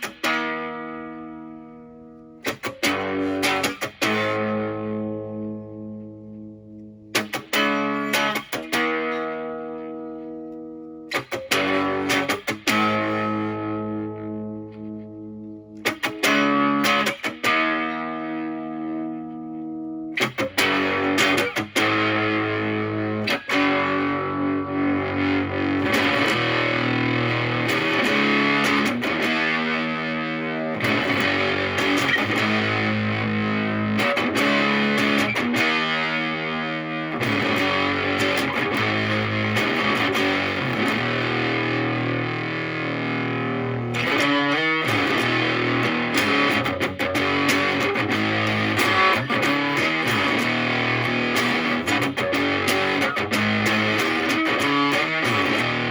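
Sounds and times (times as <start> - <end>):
fuzz electric guitar chords strummed: 0.0 - 55.9.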